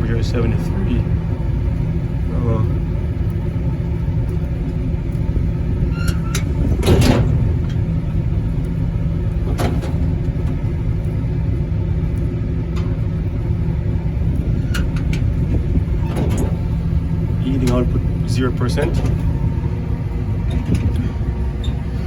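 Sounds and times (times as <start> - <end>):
heating unit rumble: 0.0 - 22.0.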